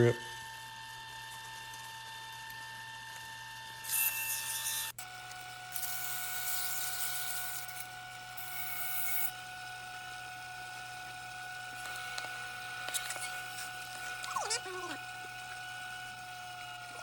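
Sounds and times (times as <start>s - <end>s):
wood lathe whine: 0.0s - 17.0s.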